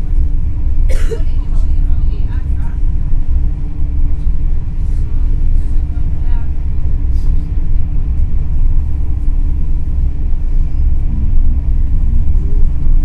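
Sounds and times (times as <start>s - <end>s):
steady hum: 0.0s - 13.0s
train rumble: 0.0s - 13.0s.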